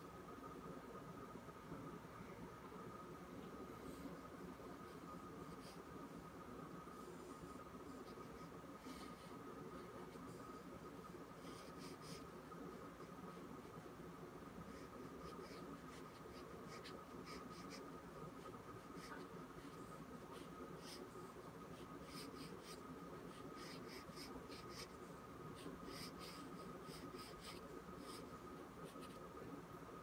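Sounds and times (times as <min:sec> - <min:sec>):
thin background hum: 0:00.0 - 0:30.0.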